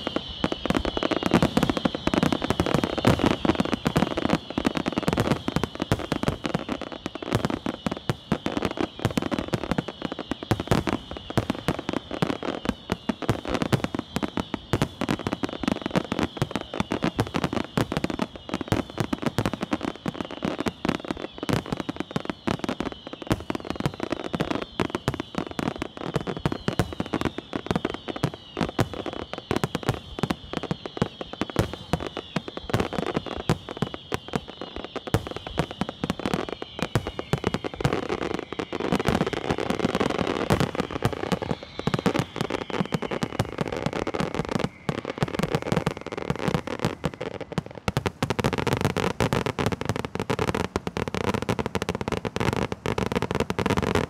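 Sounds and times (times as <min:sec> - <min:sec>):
fireworks bursting with crackle: 0:00.0 - 0:54.0.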